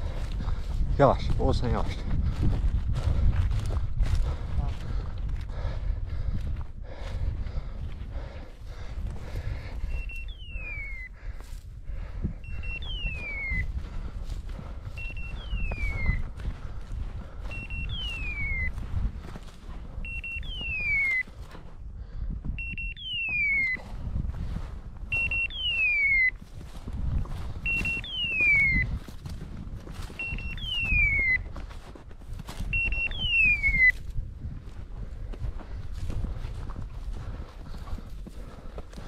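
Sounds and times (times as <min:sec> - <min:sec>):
footsteps crunching in snow: 0:00.0 - 0:22.2, 0:23.2 - 0:39.0.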